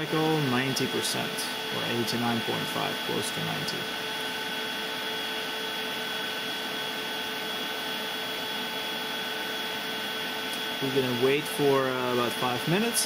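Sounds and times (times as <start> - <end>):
charger whirring with high tones: 0.0 - 13.0.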